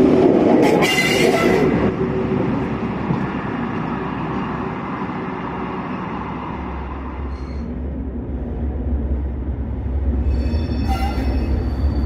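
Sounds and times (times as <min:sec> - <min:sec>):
train passing by: 0:00.0 - 0:12.0
train rumble: 0:00.0 - 0:12.0.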